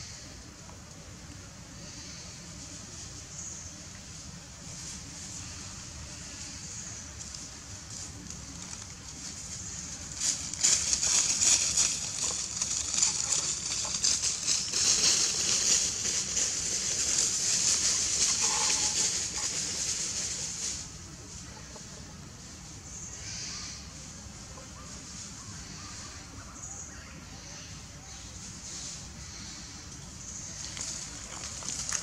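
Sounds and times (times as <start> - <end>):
cicadas buzzing: 0.0 - 32.0.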